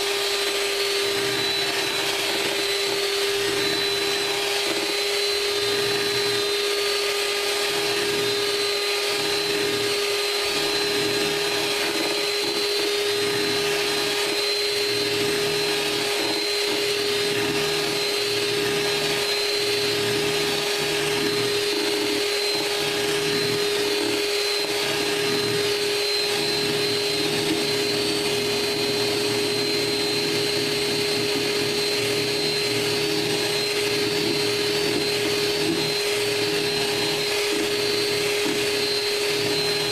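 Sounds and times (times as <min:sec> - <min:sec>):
electric hand mixer motor whine: 0:00.0 - 0:39.9.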